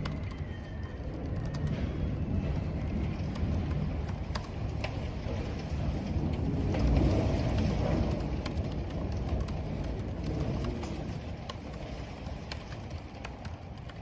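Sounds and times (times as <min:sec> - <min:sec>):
gusting wind: 0:00.0 - 0:14.0
rain: 0:00.0 - 0:14.0.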